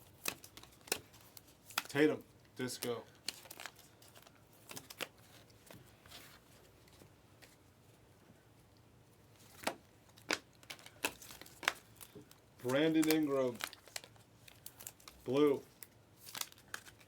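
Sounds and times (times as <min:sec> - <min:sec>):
trading cards flipping and rustling: 0:00.0 - 0:07.6, 0:09.4 - 0:17.0.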